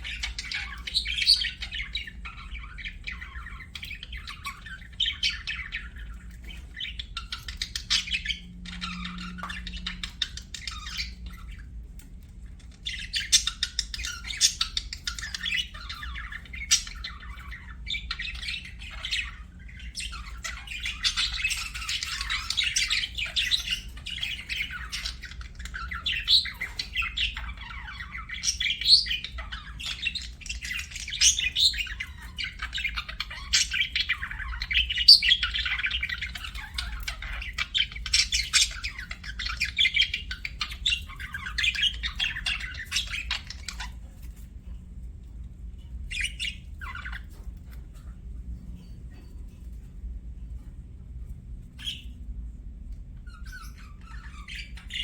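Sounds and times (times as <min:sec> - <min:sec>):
budgerigar chirping and chattering: 0:00.0 - 0:44.5, 0:53.3 - 0:55.0.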